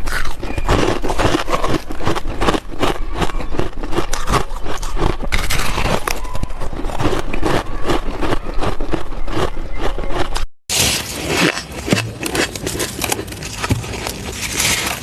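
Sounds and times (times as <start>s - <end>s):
ice being chewed: 0.0s - 15.0s.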